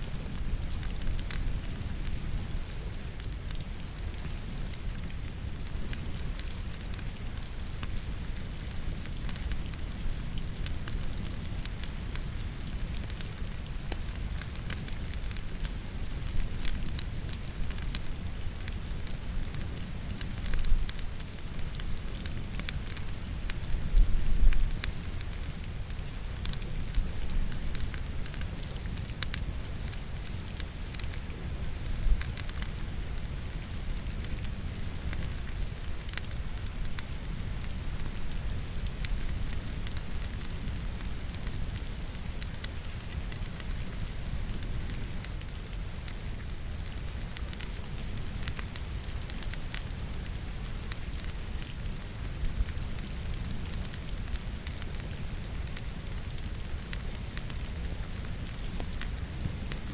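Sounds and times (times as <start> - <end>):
firewood crackling and popping: 0.0 - 59.9
rain: 0.0 - 59.9.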